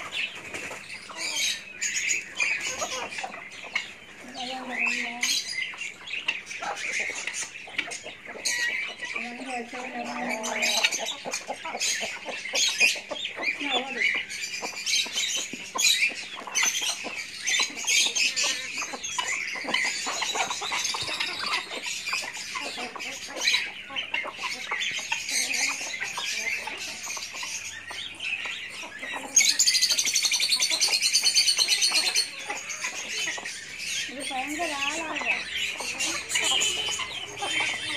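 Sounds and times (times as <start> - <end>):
chickens clucking and peeping: 0.0 - 37.9.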